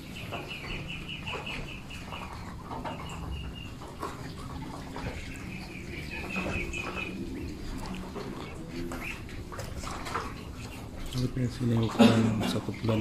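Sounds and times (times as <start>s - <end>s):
ducklings peeping: 0.0s - 11.9s.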